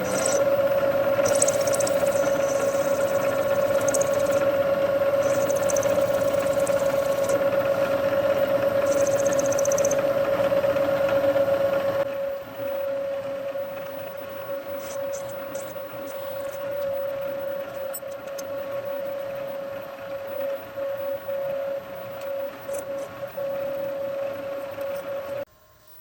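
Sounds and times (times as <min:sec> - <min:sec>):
machine tool whining: 0:00.0 - 0:26.0.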